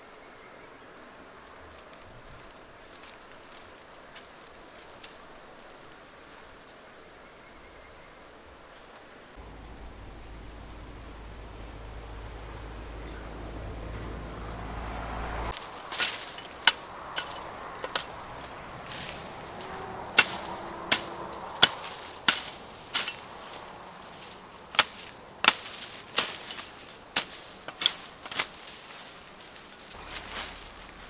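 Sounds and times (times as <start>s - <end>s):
leaf rustle: 0.0s - 31.0s
branches cracking: 0.6s - 6.8s, 8.7s - 31.0s.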